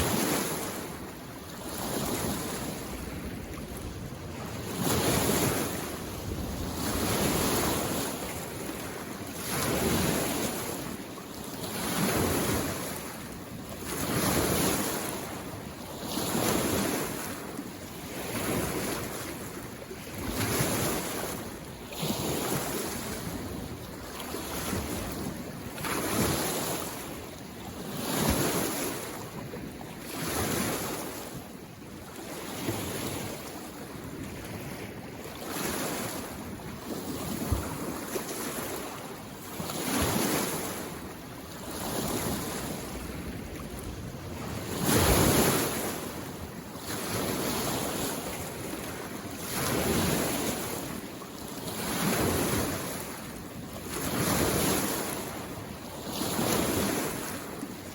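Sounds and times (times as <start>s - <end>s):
small waves washing against shore: 0.0s - 57.9s.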